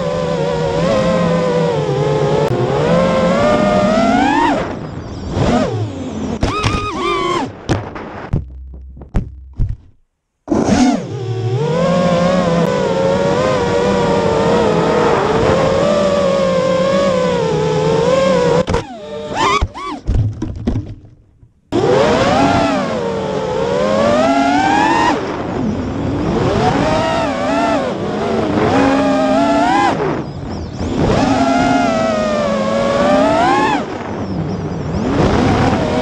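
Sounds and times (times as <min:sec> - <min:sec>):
drone motors whining: 0:00.0 - 0:07.7, 0:10.5 - 0:20.2, 0:21.7 - 0:36.0.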